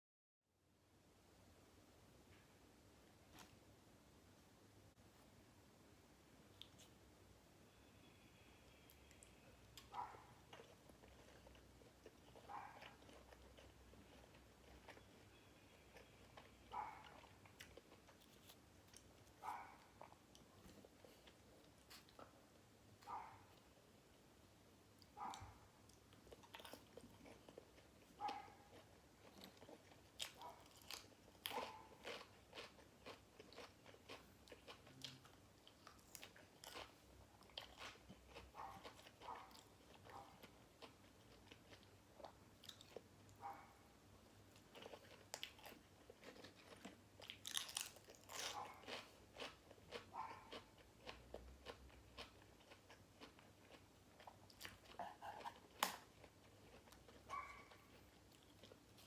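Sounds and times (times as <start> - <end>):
chewing and crunching: 9.0 - 22.4, 25.0 - 59.0.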